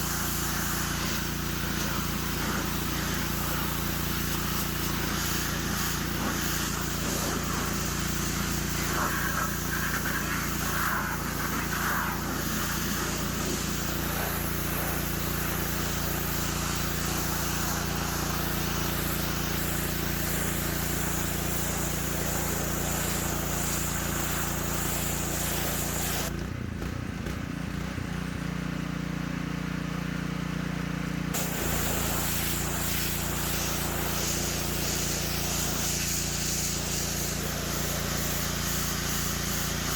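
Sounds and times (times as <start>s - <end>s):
water spray hissing: 0.0s - 26.3s, 31.4s - 39.9s
pressure washer engine running: 0.0s - 39.9s.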